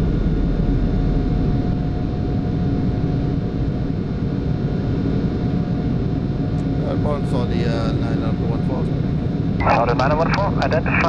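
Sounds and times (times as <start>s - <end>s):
aircraft engines and airflow rumble: 0.0s - 11.0s.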